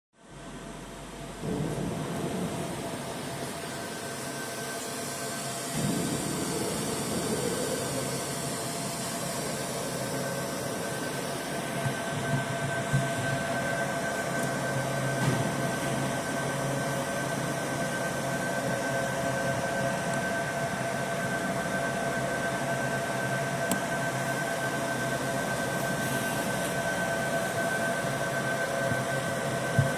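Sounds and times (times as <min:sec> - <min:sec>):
high whine: 0:00.2 - 0:29.9
laser machine fan rush: 0:00.3 - 0:29.9.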